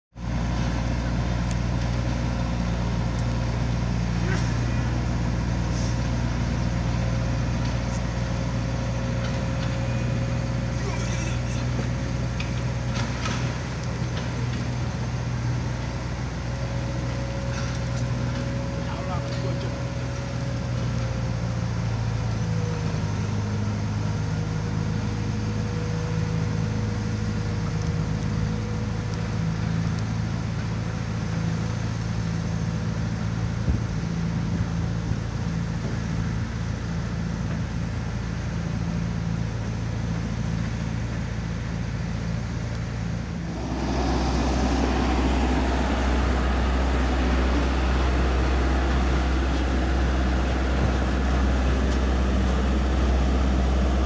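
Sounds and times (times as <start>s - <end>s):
heavy machinery diesel hum: 0.1s - 54.0s
road roller deep rumble: 0.1s - 54.0s.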